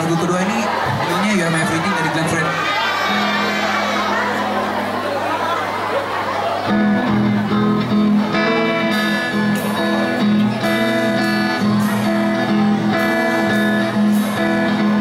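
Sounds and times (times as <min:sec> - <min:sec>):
amplified band guitars: 0:00.0 - 0:15.0.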